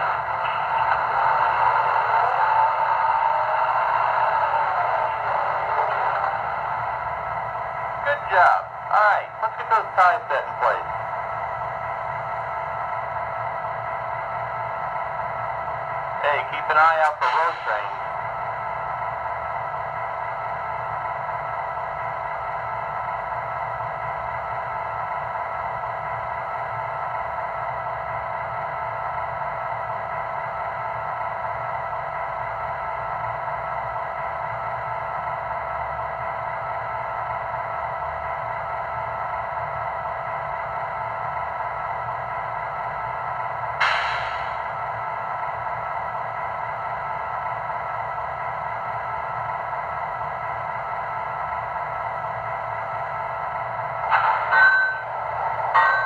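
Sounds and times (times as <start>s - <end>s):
model train diesel idling sound: 5.2s - 56.0s.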